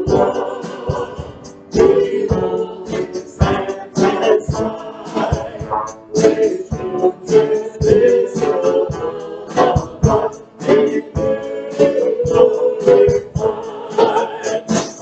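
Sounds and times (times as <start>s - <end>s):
mixed vocal group singing: 0.0s - 15.0s.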